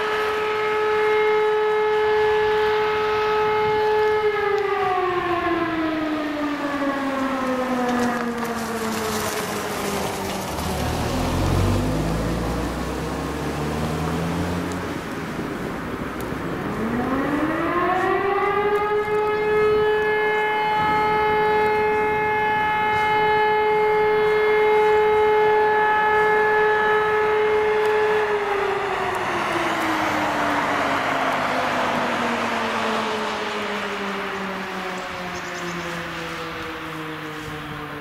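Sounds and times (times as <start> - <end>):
electric motor siren wailing: 0.0 - 38.0.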